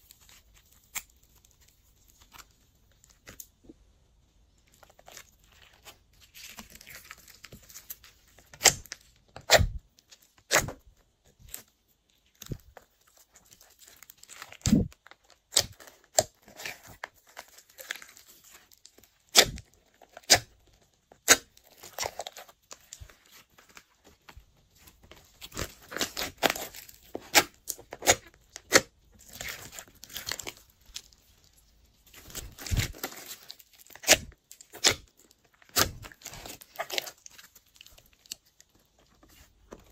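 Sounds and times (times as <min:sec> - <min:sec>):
soft sticky crackling: 0:00.0 - 0:39.9.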